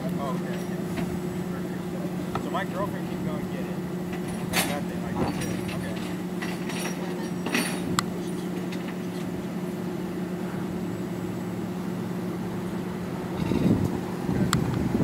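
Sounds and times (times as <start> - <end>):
idling vehicle motor hum: 0.0 - 15.0
passing street traffic: 0.0 - 15.0.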